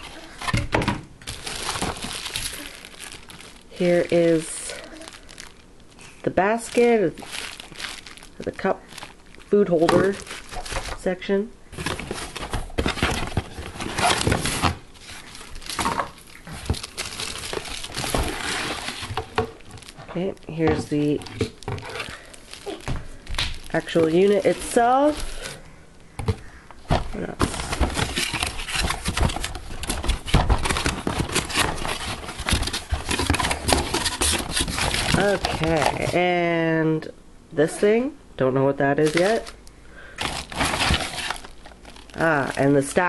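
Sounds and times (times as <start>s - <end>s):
cardboard box and plastic rustling: 0.0s - 36.4s, 39.0s - 39.6s, 40.2s - 43.0s.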